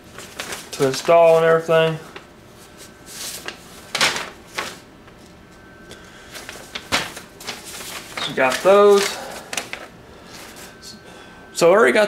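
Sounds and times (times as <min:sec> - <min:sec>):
paper rustling and flapping: 0:00.0 - 0:05.2, 0:06.2 - 0:10.8.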